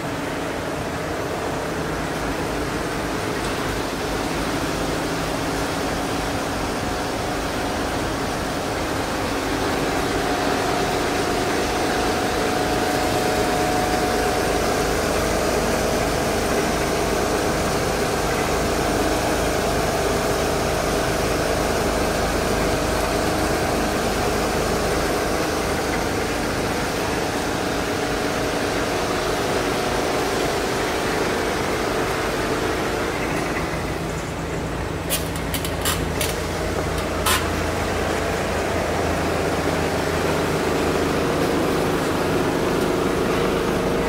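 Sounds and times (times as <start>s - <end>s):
quilting machine running: 0.0s - 44.0s.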